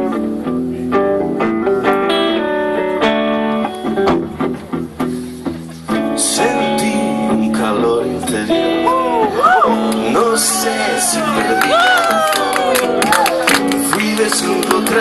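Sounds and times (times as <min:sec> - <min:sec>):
electric guitars playing: 0:00.0 - 0:15.0.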